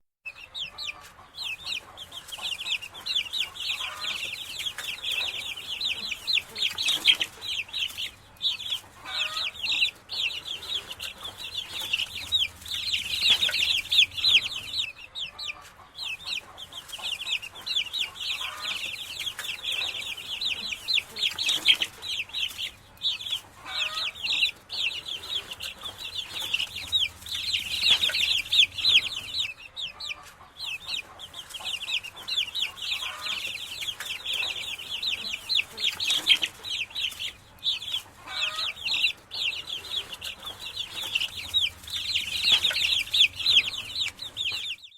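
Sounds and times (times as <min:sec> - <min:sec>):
baby chicks peeping: 0:00.2 - 0:44.9
low clucking: 0:00.3 - 0:44.7.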